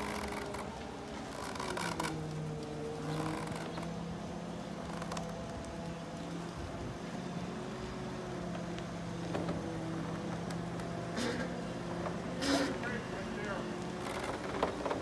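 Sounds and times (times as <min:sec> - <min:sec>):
travel lift engine running: 0:00.0 - 0:15.0.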